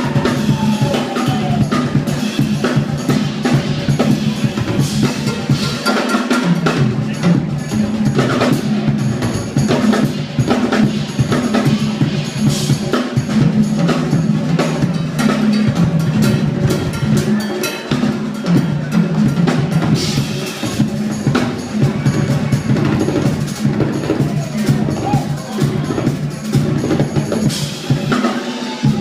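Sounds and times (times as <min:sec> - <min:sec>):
drum kit solo: 0:00.0 - 0:29.0.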